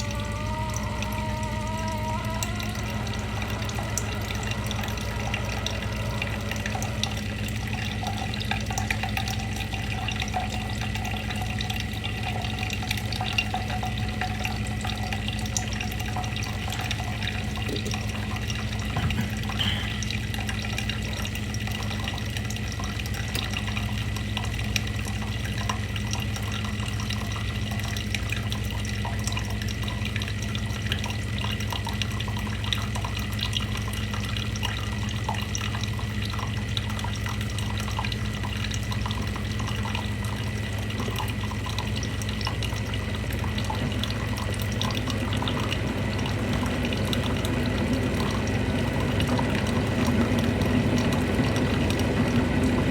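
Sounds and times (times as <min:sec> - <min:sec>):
low hum: 0:00.0 - 0:25.7, 0:31.8 - 0:52.9
water trickling and dripping: 0:00.0 - 0:52.9.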